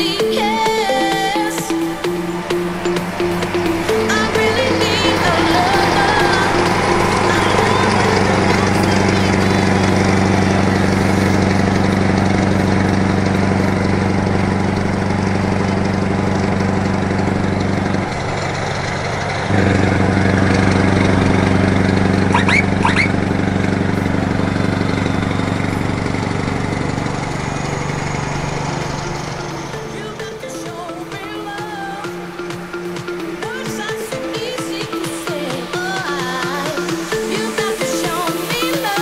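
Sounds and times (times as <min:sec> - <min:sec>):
diesel truck engine running: 0:00.0 - 0:39.0
road and wind noise: 0:01.8 - 0:34.6.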